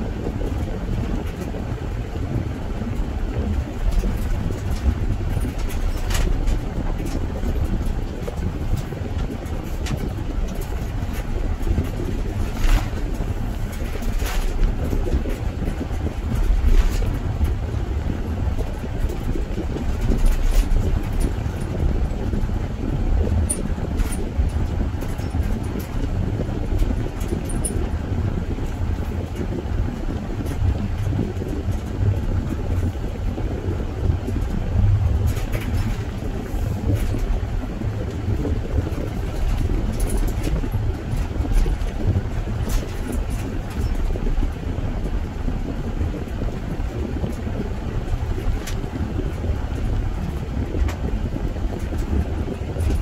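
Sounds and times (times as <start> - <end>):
car driving on road: 0.0 - 53.0.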